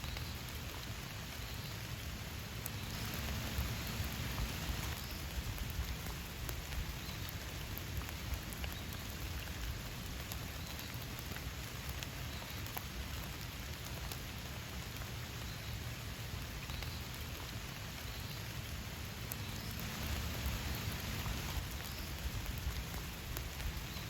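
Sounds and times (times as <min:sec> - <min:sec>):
steady rainfall: 0:00.0 - 0:24.0.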